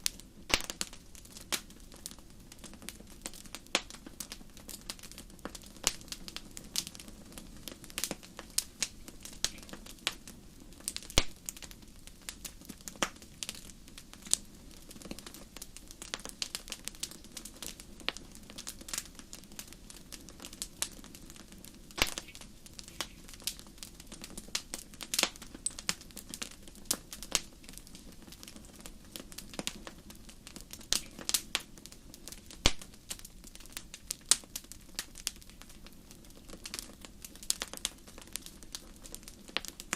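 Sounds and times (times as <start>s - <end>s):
faint low hiss: 0.0s - 39.9s
wood fire crackling and popping: 0.0s - 39.9s.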